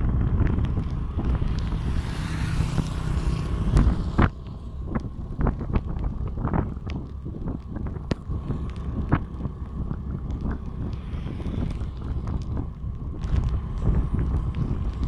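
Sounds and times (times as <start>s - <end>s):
low road rumble: 0.0s - 15.0s
wind buffeting microphone: 0.0s - 15.0s.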